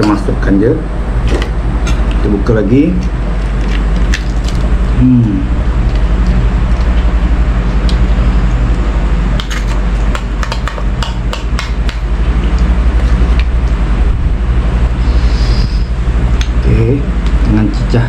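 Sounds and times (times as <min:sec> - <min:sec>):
low rumble: 0:00.0 - 0:11.0, 0:11.7 - 0:18.0.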